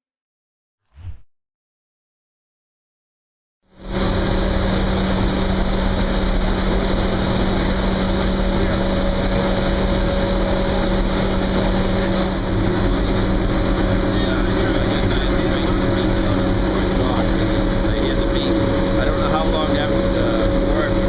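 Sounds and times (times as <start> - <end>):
boiler room machinery roar: 3.7 - 21.0
low hum: 3.8 - 21.0.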